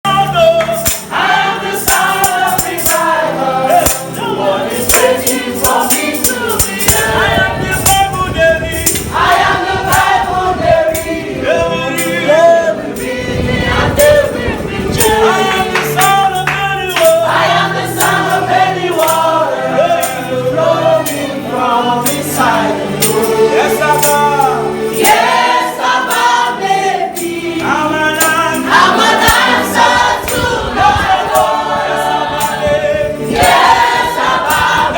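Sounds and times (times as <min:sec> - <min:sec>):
choir singing gospel song: 0:00.1 - 0:34.9
percussion beat: 0:00.1 - 0:34.9.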